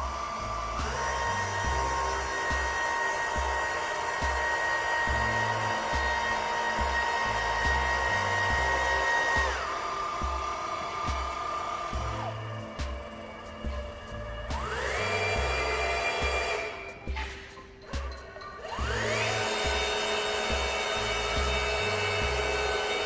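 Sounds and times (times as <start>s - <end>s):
dispensing gun motor whining: 0.0s - 17.2s, 18.6s - 23.0s
background music with steady beat: 0.0s - 23.0s.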